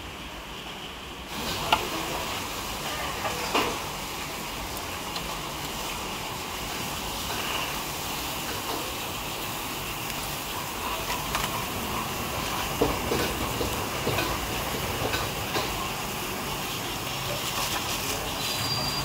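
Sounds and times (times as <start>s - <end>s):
busy food stall background noise: 0.0s - 19.0s.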